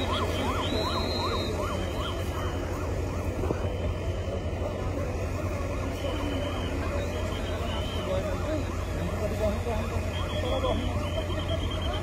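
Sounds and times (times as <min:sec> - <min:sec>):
emergency siren yelping: 0:00.0 - 0:12.0
low rumble of vehicle engines: 0:00.0 - 0:12.0.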